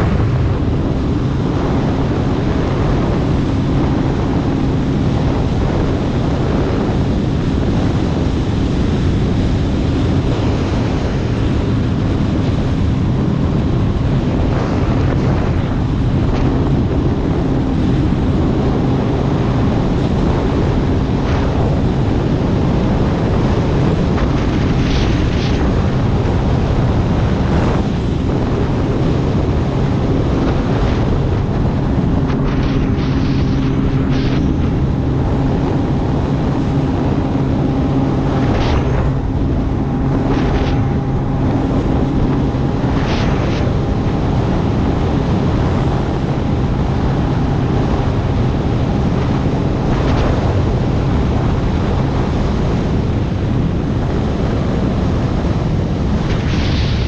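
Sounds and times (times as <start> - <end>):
rushing water: 0.0 - 57.0
watercraft engine drone: 0.0 - 57.0
wind buffeting microphone: 0.0 - 57.0.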